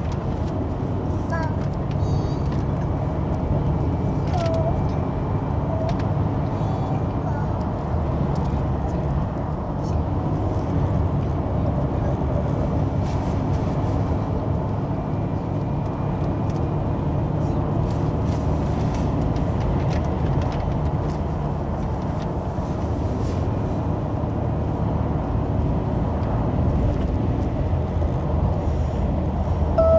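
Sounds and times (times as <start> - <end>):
engine low rumble: 0.0 - 29.9.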